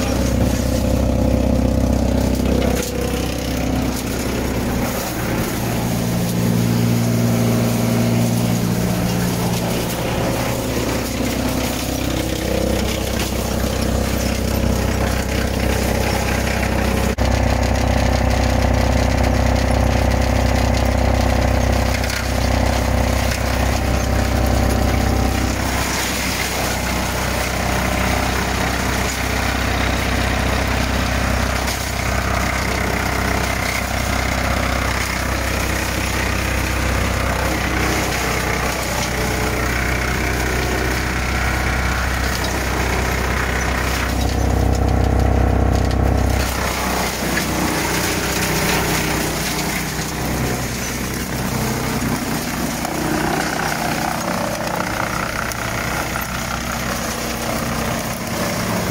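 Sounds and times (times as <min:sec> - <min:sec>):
wood chipper droning: 0:00.0 - 0:58.9.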